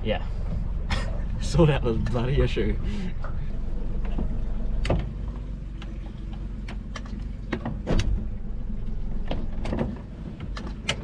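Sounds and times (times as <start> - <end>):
outboard motor running slowly: 0.0 - 9.6.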